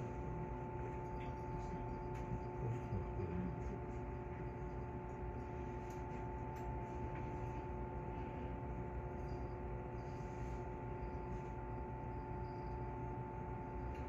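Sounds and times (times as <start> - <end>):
electric train electrical hum: 0.0 - 14.0.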